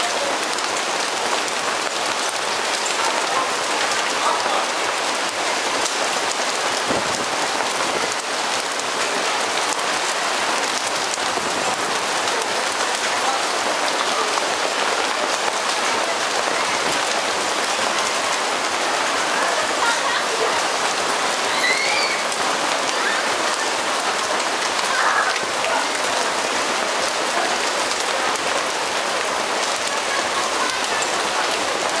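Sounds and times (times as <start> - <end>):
hail and rain on awnings: 0.0 - 32.0.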